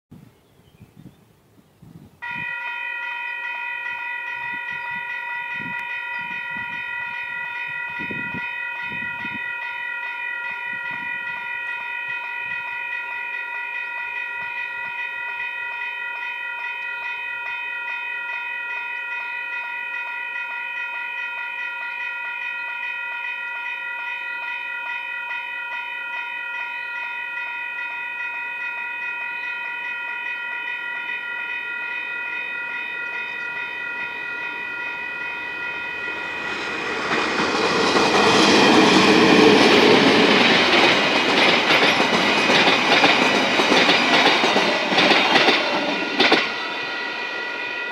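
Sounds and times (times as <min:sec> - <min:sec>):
level crossing warning bell: 0:02.2 - 0:47.9.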